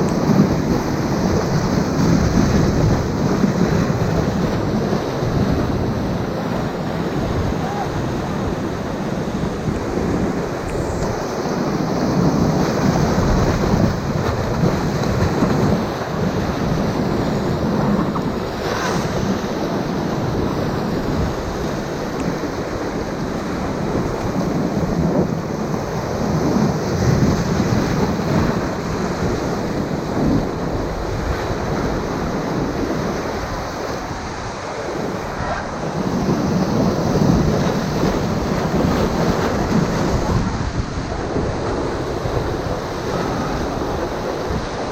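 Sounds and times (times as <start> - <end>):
whitewater rushing and crashing: 0.0 - 44.9.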